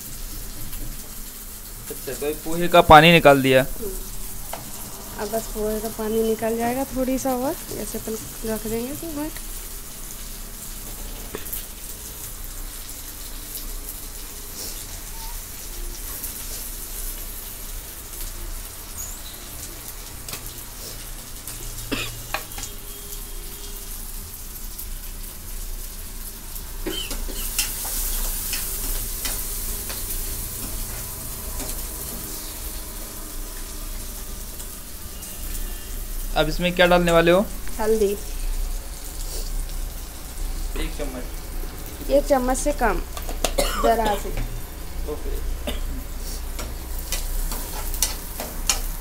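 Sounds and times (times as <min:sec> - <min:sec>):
vegetables sizzling in oil: 0:00.0 - 0:49.0.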